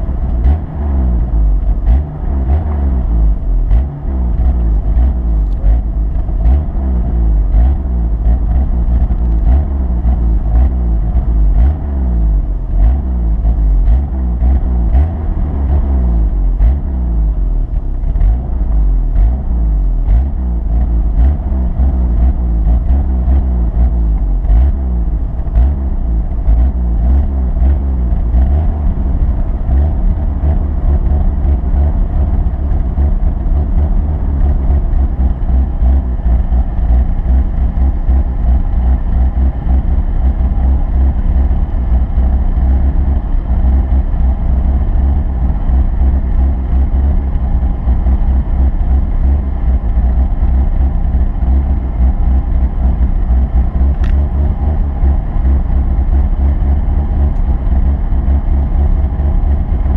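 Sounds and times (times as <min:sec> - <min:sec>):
vehicle engine rumbling: 0:00.0 - 0:59.9.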